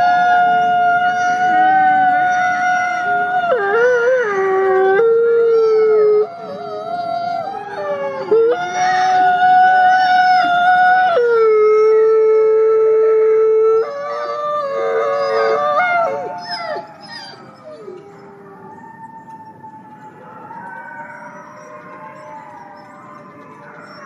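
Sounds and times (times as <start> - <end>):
wolves howling: 0.0 - 24.0.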